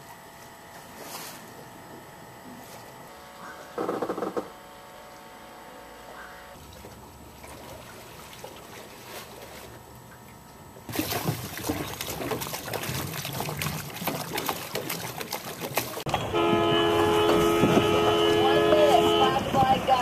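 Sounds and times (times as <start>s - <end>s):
water lapping against boat hulls: 0.0s - 20.0s.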